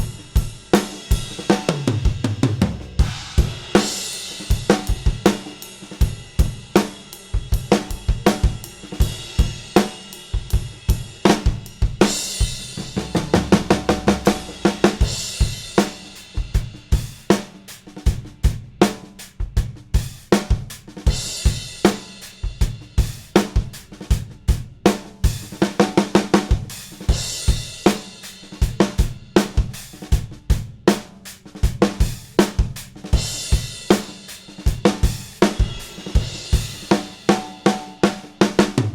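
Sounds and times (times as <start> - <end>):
drum kit groove: 0.0 - 38.9.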